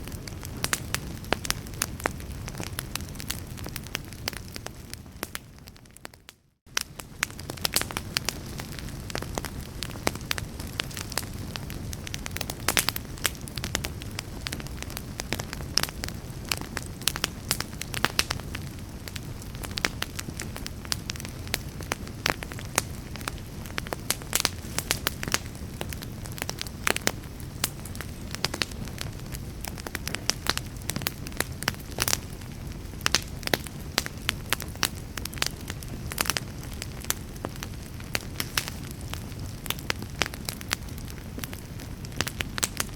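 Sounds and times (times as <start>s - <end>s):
fire crackling and popping: 0.0s - 42.9s
low rush of flames: 0.0s - 42.9s.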